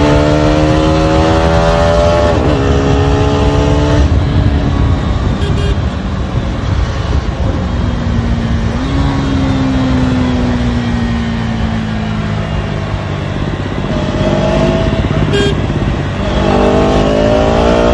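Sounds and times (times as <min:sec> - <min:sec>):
motorcycle engine revving: 0:00.0 - 0:17.9
wind and road rush: 0:00.0 - 0:17.9.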